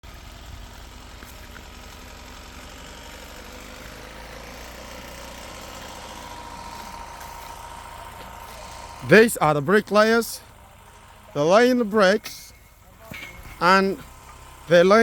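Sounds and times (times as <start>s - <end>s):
motor running with faint whine: 0.1s - 15.0s.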